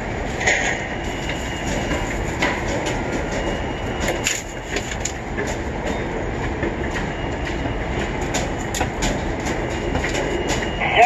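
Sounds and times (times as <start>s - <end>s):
crane cab rumbling: 0.0s - 11.0s.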